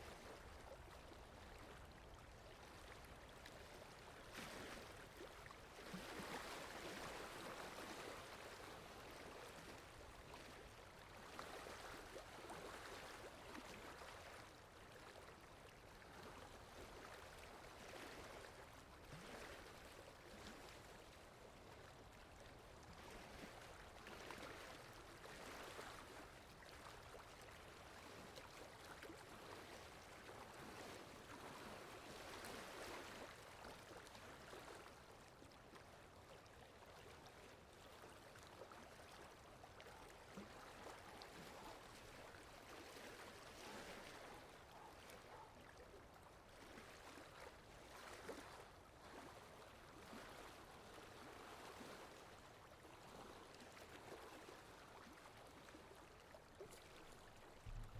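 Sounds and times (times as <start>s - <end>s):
water lapping: 0.0s - 57.9s
wind: 0.0s - 57.9s.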